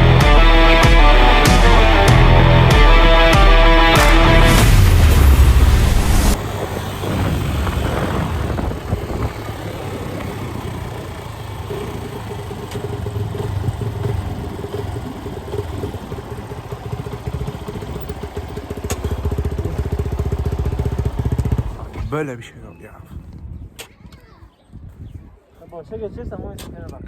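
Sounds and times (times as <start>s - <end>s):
held engine tone: 0.0s - 22.0s
motorcycle engine running: 0.0s - 22.0s.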